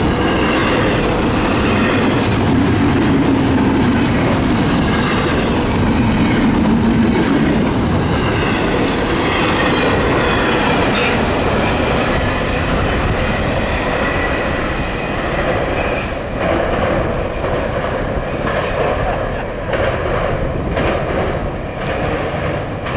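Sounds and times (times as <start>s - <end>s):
freight train wheels on rails: 0.0s - 22.9s.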